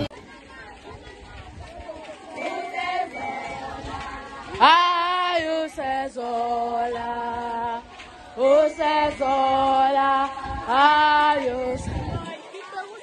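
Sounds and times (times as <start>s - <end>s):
voices singing a chant: 0.0s - 13.0s.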